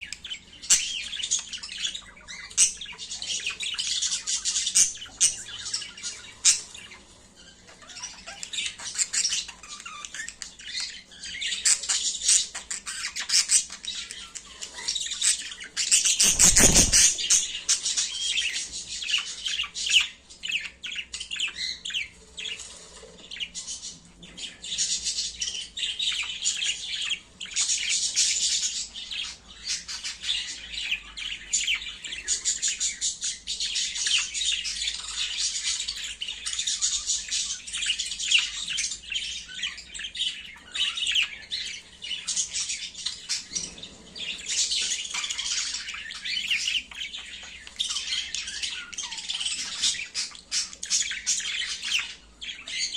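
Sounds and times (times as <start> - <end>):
budgerigars chattering: 0.0 - 22.6, 24.7 - 52.9.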